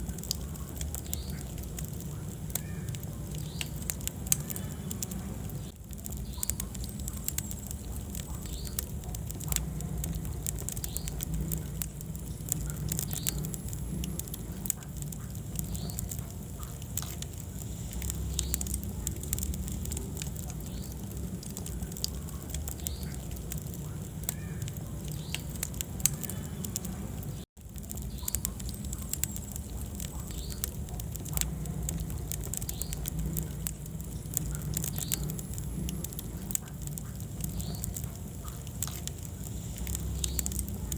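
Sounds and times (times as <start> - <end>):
fire crackling and popping: 0.0 - 40.9
fire flames rumbling: 0.0 - 40.9.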